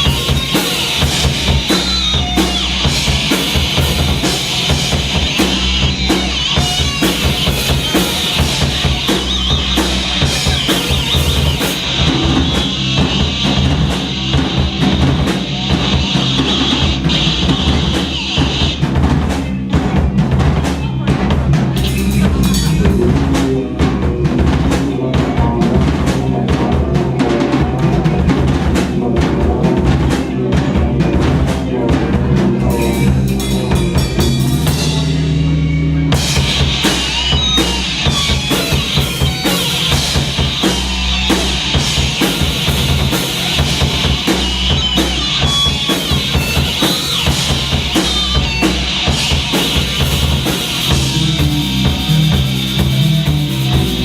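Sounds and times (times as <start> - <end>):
bass drum and snare: 0.0 - 54.0
rock band playing: 0.0 - 54.0.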